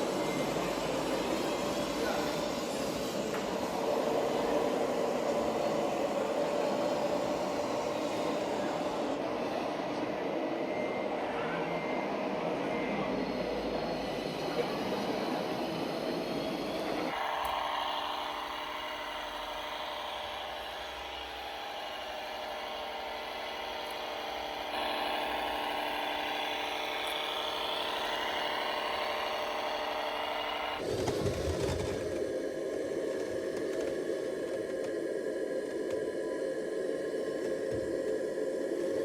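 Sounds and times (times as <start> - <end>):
model truck motors whining: 0.0 - 32.3.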